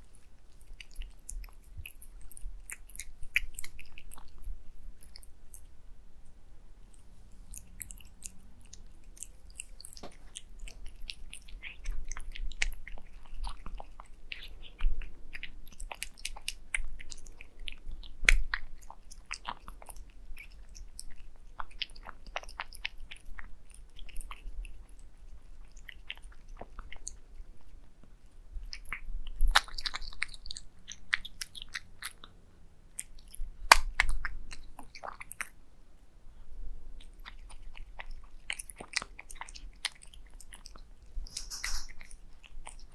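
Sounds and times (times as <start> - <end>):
cats wet chewing: 0.0 - 5.8, 6.8 - 35.6, 36.3 - 42.9.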